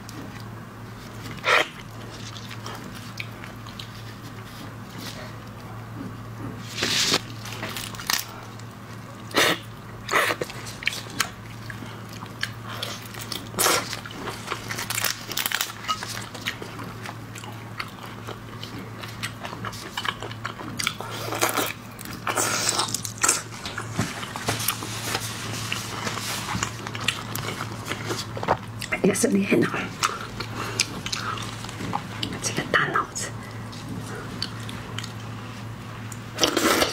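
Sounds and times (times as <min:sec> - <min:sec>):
chewing: 0:00.0 - 0:29.0, 0:29.9 - 0:32.4, 0:33.5 - 0:35.4
low steady hum: 0:00.0 - 0:36.9.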